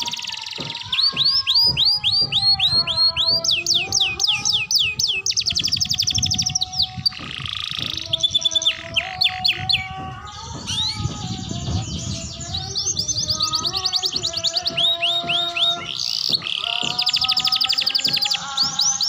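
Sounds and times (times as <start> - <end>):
canary singing trills: 0.0 - 19.0.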